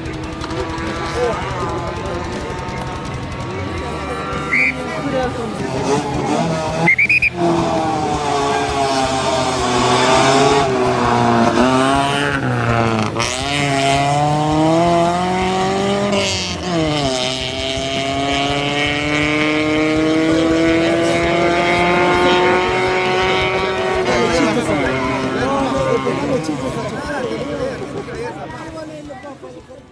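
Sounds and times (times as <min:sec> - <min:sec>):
rally car engine accelerating: 0:00.0 - 0:29.9.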